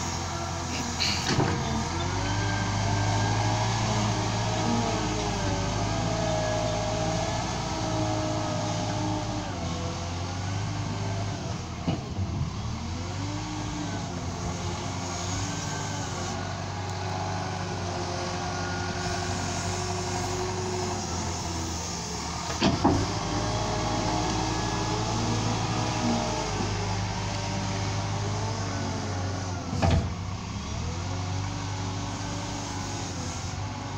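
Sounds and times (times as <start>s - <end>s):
wheel loader diesel engine: 0.0s - 33.9s.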